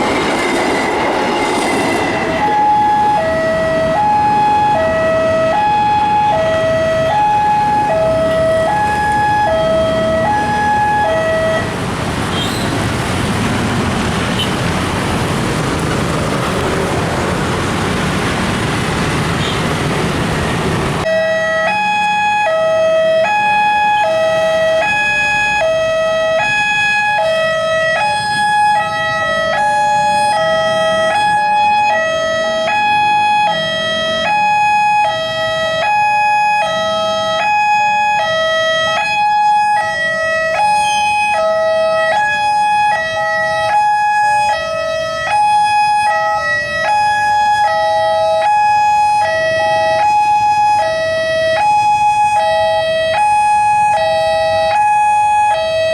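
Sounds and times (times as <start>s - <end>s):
two-tone crossing alarm: 0.0s - 13.0s, 21.0s - 55.9s
road traffic: 0.0s - 55.9s.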